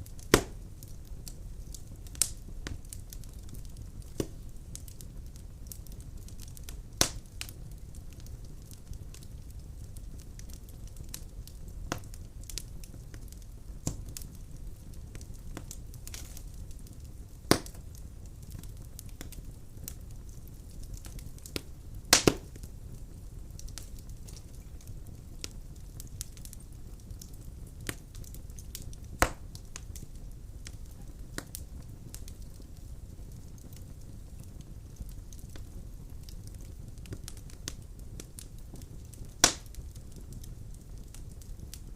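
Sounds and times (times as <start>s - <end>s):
firewood popping and snapping: 0.0s - 9.3s, 9.9s - 14.5s, 15.1s - 22.7s, 23.5s - 32.9s, 33.5s - 41.9s
flames rumbling: 0.0s - 41.9s.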